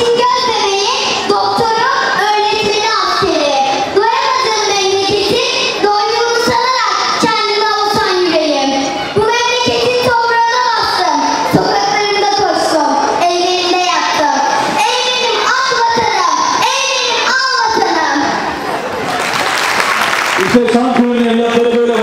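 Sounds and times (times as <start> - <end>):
girl singing into microphone: 0.0 - 18.4.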